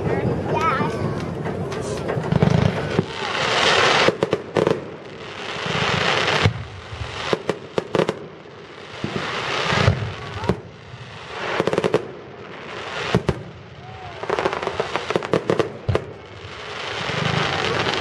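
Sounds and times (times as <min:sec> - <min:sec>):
firework bangs and crackling: 0:00.0 - 0:18.0
fireworks hissing upward: 0:00.0 - 0:18.0.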